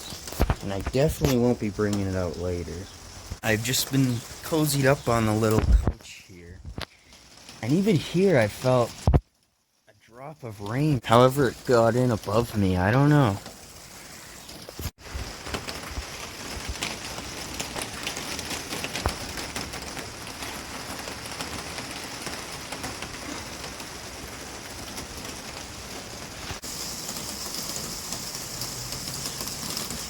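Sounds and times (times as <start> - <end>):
heavy rain on shelter roof: 0.0 - 2.8, 3.4 - 9.5, 10.4 - 30.0.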